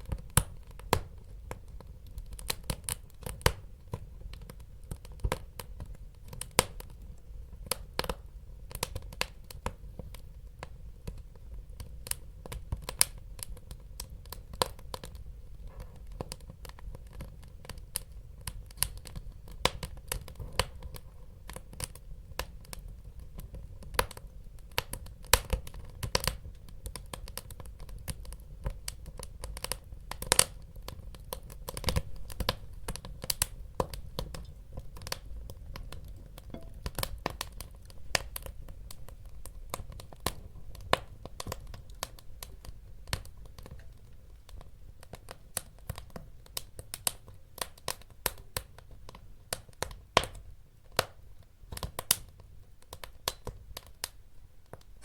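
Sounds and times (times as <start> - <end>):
low rumble of flames: 0.0 - 51.1
wood fire crackling and popping: 0.0 - 55.0.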